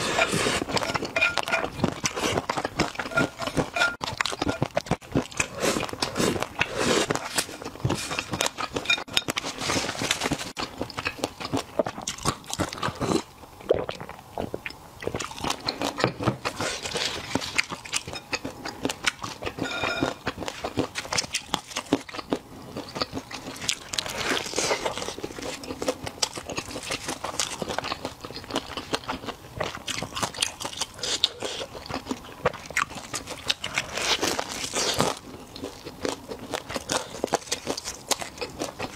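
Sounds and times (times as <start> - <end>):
chewing and crunching fried chicken: 0.0 - 38.9.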